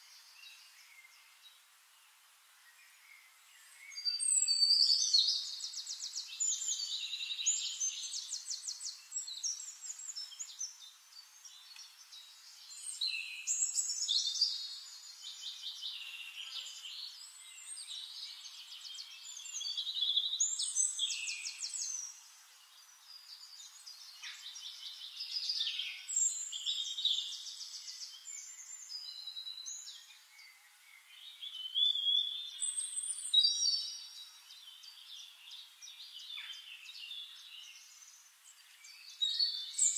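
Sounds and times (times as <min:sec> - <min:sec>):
songbirds singing trills: 0:00.0 - 0:39.9.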